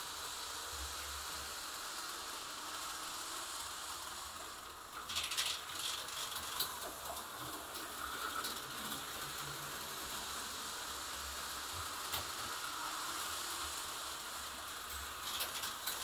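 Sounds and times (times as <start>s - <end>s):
slot car running on plastic track: 0.0s - 16.0s.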